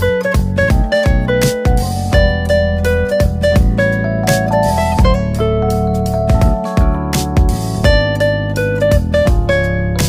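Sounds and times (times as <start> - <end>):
steady beat: 0.0 - 8.3, 8.9 - 9.6
plucked guitar-like melody: 0.0 - 10.0.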